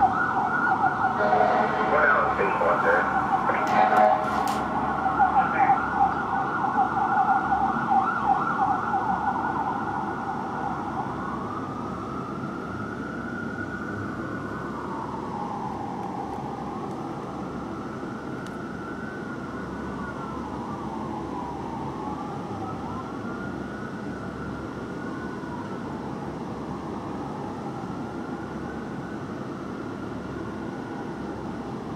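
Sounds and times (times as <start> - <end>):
city traffic hum: 0.0 - 31.9
fire engine siren: 0.0 - 31.9.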